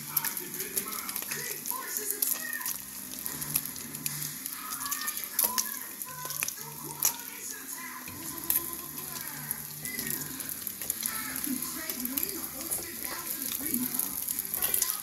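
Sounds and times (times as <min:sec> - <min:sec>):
meat sizzling in oil: 0:00.0 - 0:15.0
oil popping: 0:00.0 - 0:15.0.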